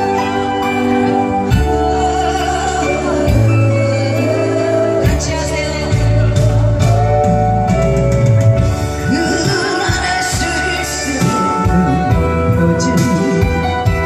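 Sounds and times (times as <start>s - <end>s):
upbeat song with singing: 0.0s - 14.0s.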